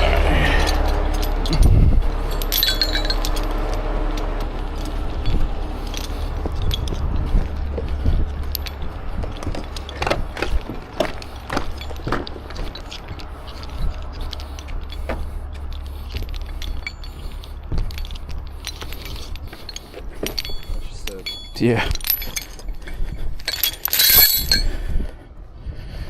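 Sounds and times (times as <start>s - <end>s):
steel chain clinking and rattling: 0.0s - 25.2s
low engine hum: 0.0s - 26.0s.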